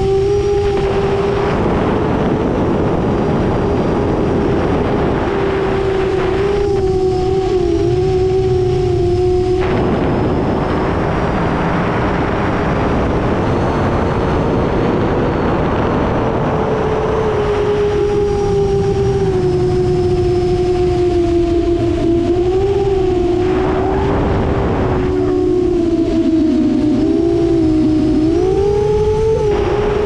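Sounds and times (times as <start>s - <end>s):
quadcopter motors whining: 0.0s - 30.0s
wind noise rushing: 0.0s - 30.0s.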